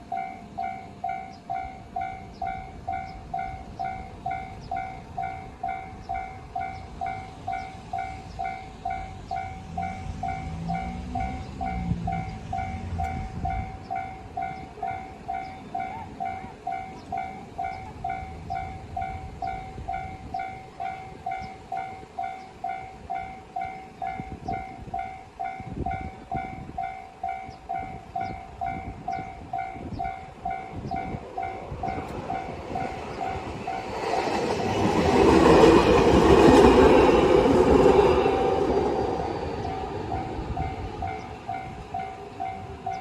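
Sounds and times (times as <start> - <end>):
level crossing alarm ringing: 0.0 - 34.4, 40.1 - 43.0
train rushing past: 0.0 - 43.0.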